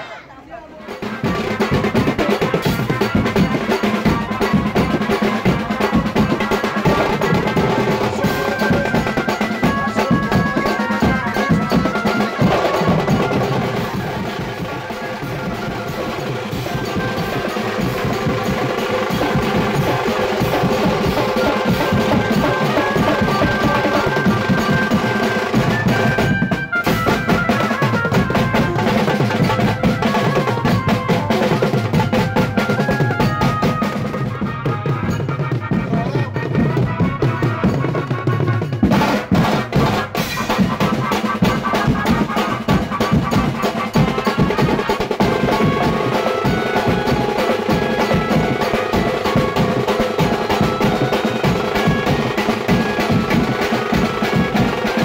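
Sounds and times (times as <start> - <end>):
drums played fast with sticks: 0.0 - 55.0.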